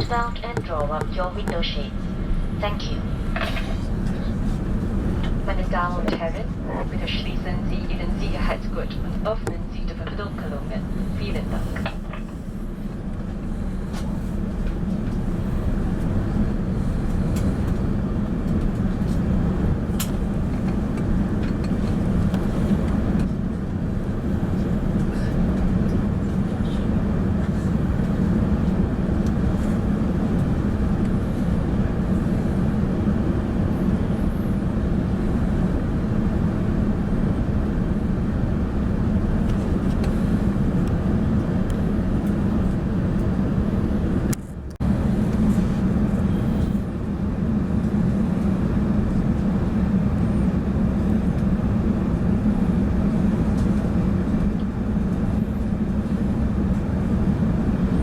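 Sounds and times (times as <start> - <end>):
airliner cabin engine hum: 0.0 - 58.0.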